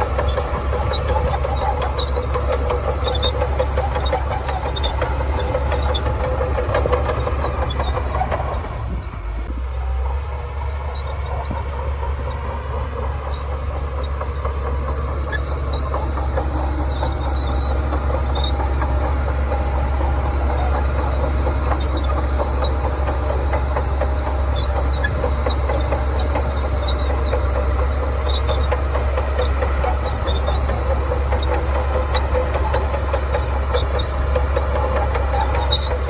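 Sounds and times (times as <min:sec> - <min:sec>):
bulldozer diesel drone: 0:00.0 - 0:36.0
bulldozer rattle: 0:00.0 - 0:36.0.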